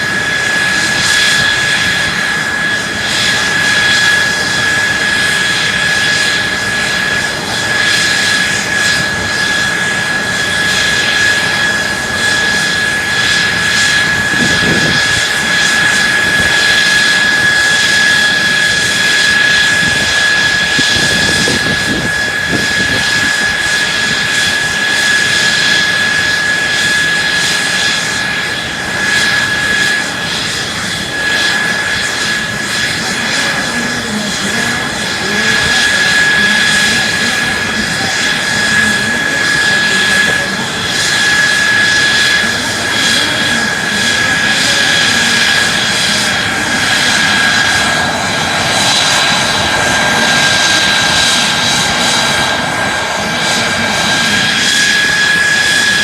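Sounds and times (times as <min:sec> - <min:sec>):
jet engine rush and whine: 0:00.0 - 0:56.0.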